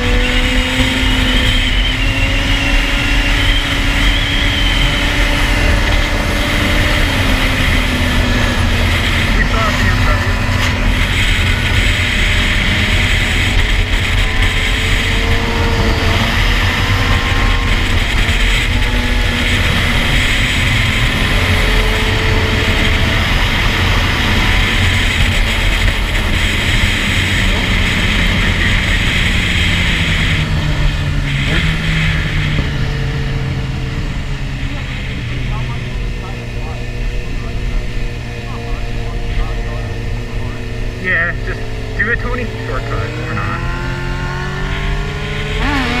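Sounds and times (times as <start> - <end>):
muffled motorcycle engine running: 0.0 - 46.0.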